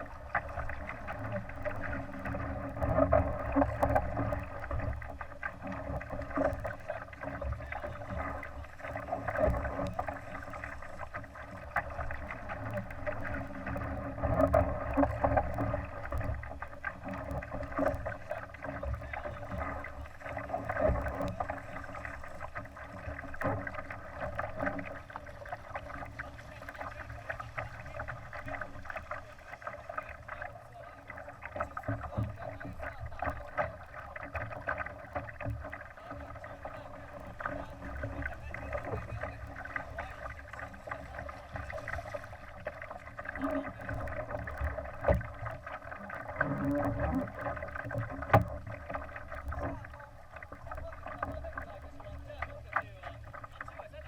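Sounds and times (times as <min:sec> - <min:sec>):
water slapping along a hull: 0:00.0 - 0:54.0.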